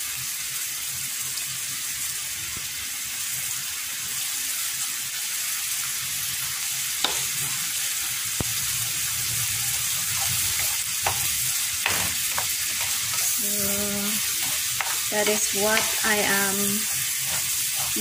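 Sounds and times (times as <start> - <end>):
shrimp sizzling in a frying pan: 0.0 - 18.0.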